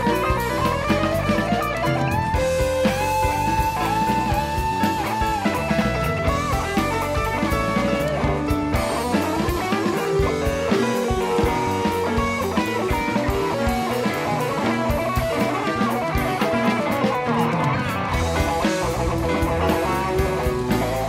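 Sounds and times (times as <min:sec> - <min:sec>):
rock music: 0:00.0 - 0:21.0.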